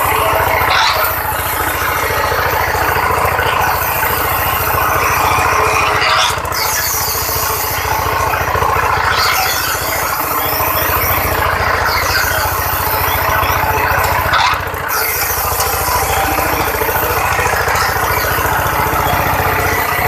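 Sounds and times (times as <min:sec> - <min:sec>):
machine low pulsing: 0:00.0 - 0:20.0.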